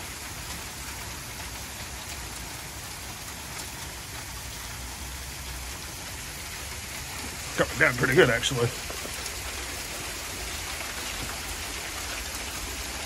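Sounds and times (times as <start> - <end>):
hail and rain on concrete: 0.0 - 13.0.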